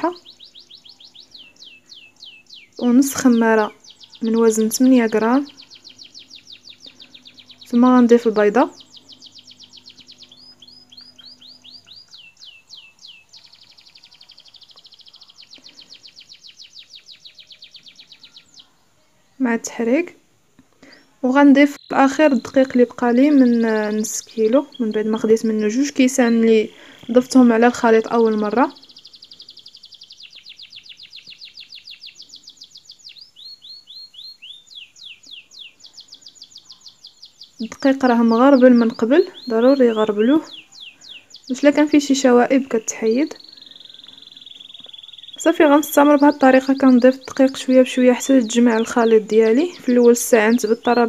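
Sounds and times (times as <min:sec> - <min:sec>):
songbird trilling: 0:00.0 - 0:18.8, 0:21.3 - 0:51.0.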